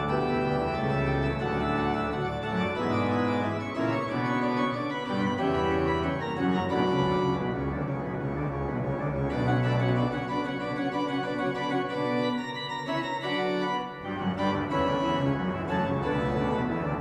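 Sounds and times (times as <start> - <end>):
organ pedal bass line: 0.0 - 17.0
pipe organ playing chords: 0.0 - 17.0.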